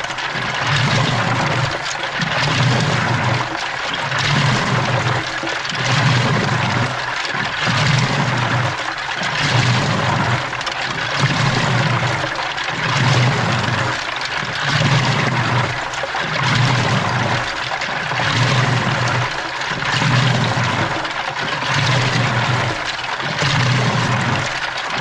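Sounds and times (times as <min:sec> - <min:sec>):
washing machine motor hum: 0:00.0 - 0:25.0
water sloshing in drum: 0:00.0 - 0:25.0.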